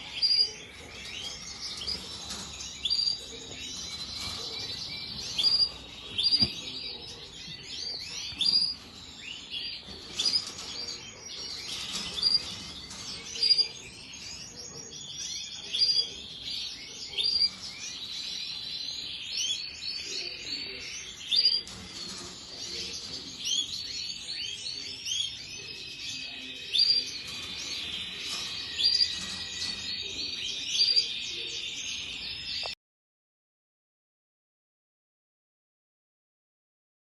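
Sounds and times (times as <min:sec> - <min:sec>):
chorus of cage birds chirping: 0:00.0 - 0:32.8.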